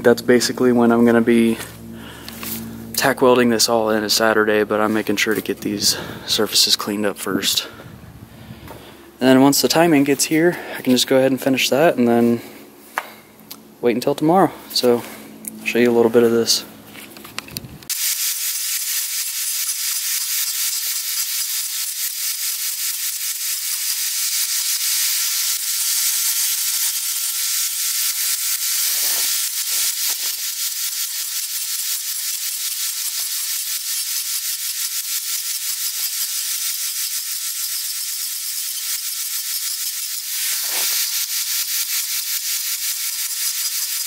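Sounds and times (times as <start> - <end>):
angle grinder grinding metal: 0.0 - 13.1, 14.1 - 44.0.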